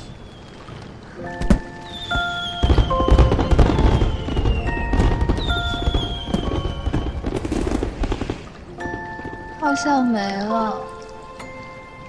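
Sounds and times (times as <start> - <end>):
fireworks booming and crackling: 0.0 - 10.0
soundtrack music with held notes: 1.2 - 12.0.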